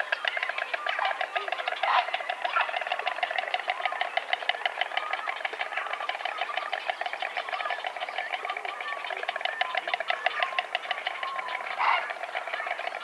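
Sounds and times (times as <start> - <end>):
stork bill clattering: 0.0 - 13.0.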